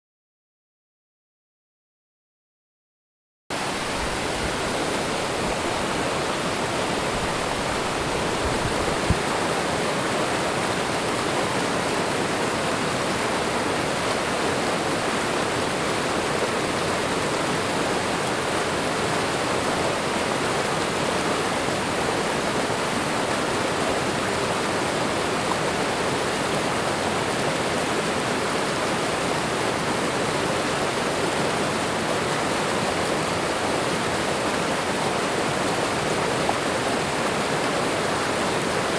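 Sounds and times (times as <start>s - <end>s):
waterfall pouring and splashing: 3.5s - 38.9s.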